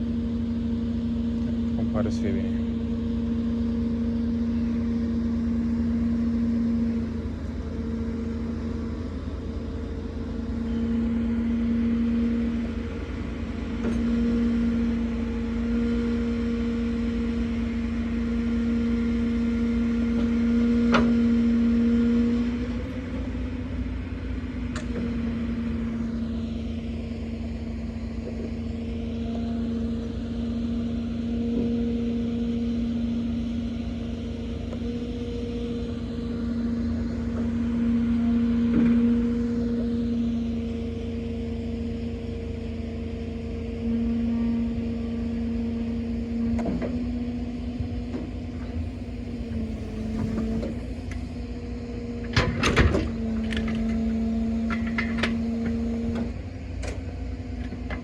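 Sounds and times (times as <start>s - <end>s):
truck engine and crane hydraulics humming: 0.0s - 58.0s.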